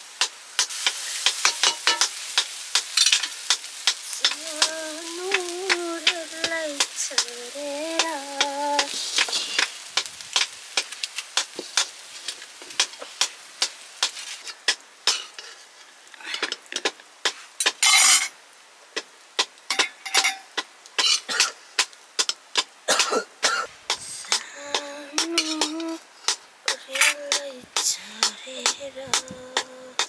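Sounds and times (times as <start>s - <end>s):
light sizzle: 0.0s - 30.0s.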